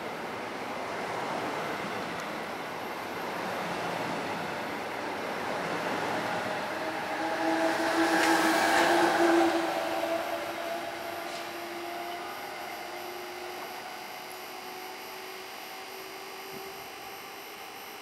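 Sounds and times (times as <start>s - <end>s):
train wheels rushing on rail: 0.0s - 17.9s
multi-tone locomotive whine: 0.0s - 18.0s.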